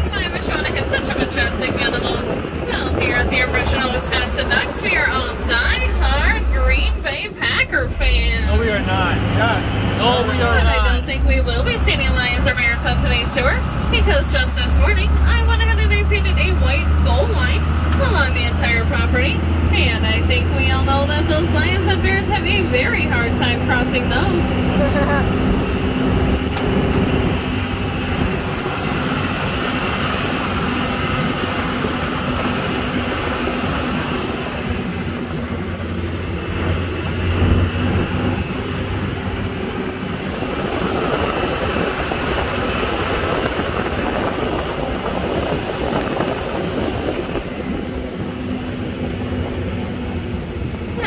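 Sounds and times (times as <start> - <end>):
boat engine droning: 0.0 - 51.0.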